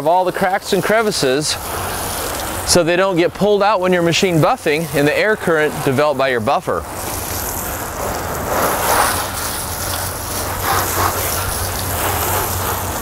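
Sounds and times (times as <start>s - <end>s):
water spray on car body: 0.0s - 13.0s.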